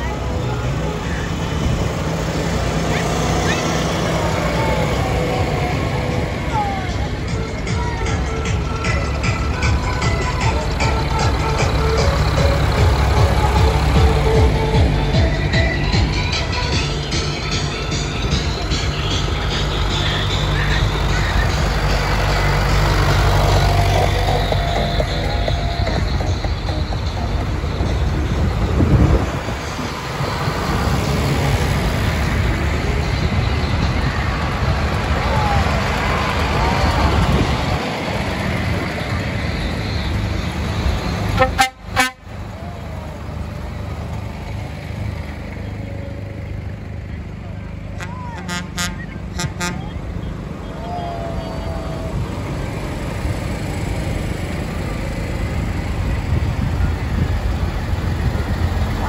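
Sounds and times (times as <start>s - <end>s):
tractor diesel engines rumbling: 0.0s - 59.0s.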